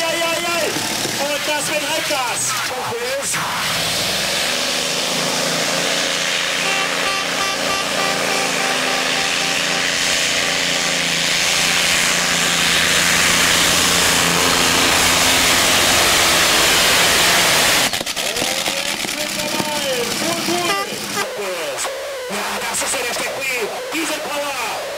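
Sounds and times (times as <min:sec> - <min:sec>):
tractor engine running hard: 0:00.0 - 0:02.3, 0:03.6 - 0:24.9.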